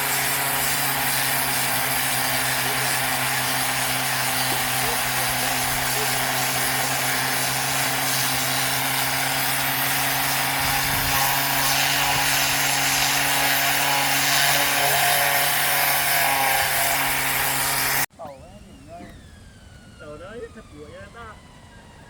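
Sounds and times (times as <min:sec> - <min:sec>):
power tool grinding wood: 0:00.0 - 0:18.1.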